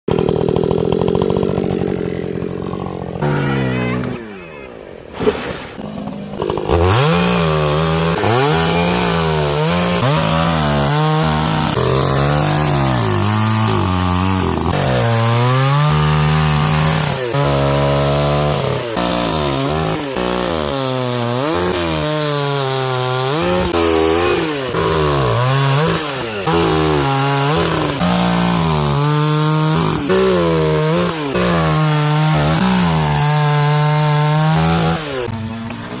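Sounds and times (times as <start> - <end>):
chainsaw cutting wood: 0.1 - 4.3, 5.2 - 36.0.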